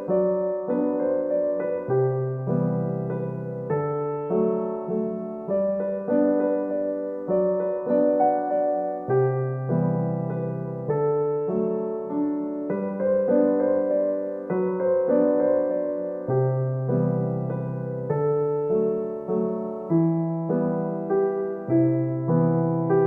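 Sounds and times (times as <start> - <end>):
gentle piano chords: 0.0 - 23.0.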